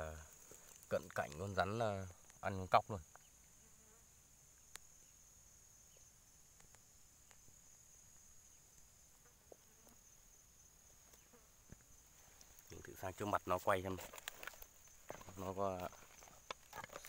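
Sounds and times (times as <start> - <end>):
faint insect drone: 0.0 - 17.0.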